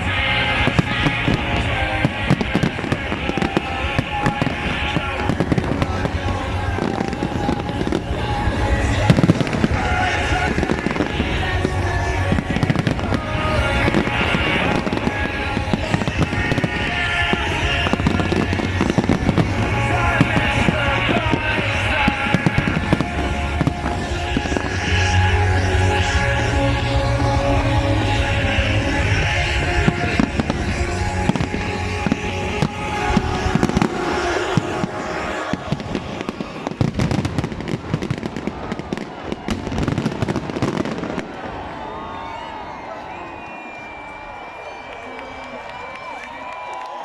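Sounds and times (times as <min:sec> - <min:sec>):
music with sustained tones: 0:00.0 - 0:38.2
fireworks crackling and banging: 0:00.0 - 0:47.0.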